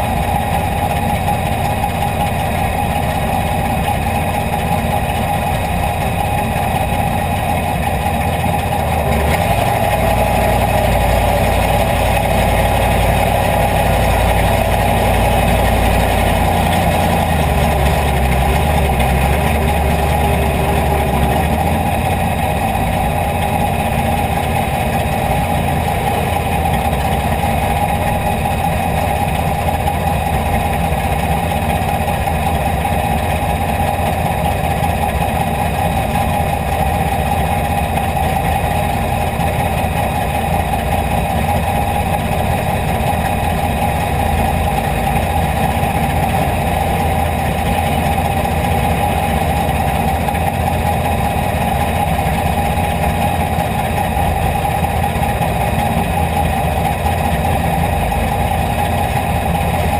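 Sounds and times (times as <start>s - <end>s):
race car engine idling: 0.0s - 59.9s.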